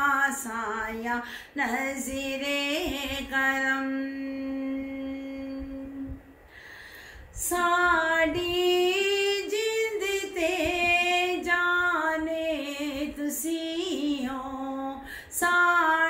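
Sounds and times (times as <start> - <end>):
woman singing unaccompanied: 0.0 - 6.3, 7.3 - 16.0.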